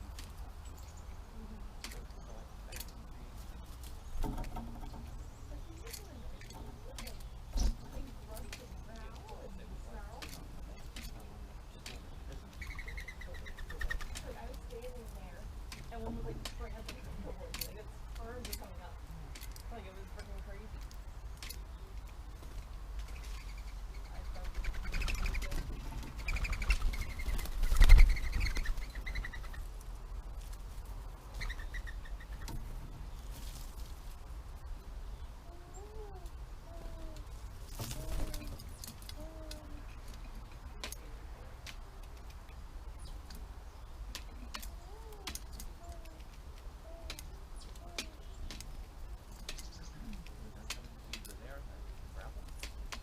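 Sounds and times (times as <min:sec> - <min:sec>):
birds tapping and clicking: 0:00.0 - 0:53.0
soft bird calls: 0:00.0 - 0:53.0.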